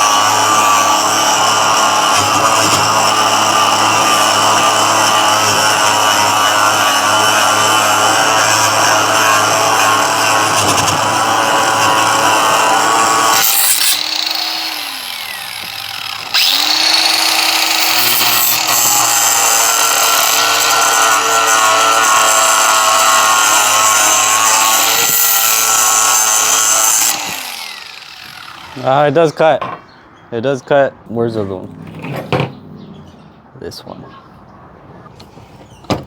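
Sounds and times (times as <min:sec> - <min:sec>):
angle grinder cutting metal: 0:00.0 - 0:29.4.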